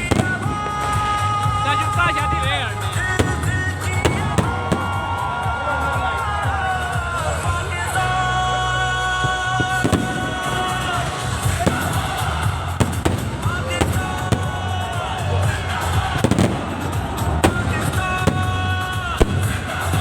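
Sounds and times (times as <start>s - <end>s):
fireworks bangs: 0.0s - 8.5s, 9.1s - 20.0s
loud music over loudspeakers: 0.0s - 20.0s.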